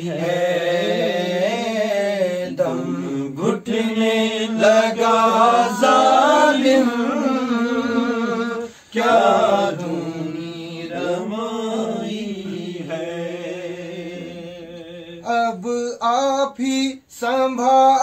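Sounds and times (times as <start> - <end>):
man reciting with held sung note: 0.0 - 18.0.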